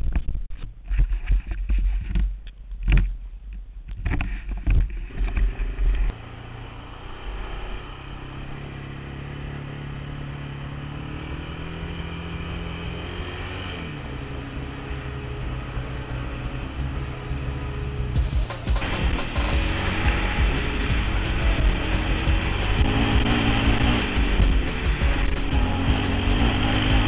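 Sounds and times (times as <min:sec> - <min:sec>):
atv engine running on gravel: 0:05.0 - 0:27.0.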